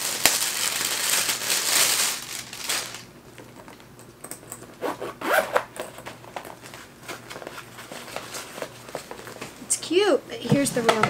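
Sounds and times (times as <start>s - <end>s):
plastic wrapping crinkling: 0.0s - 9.6s.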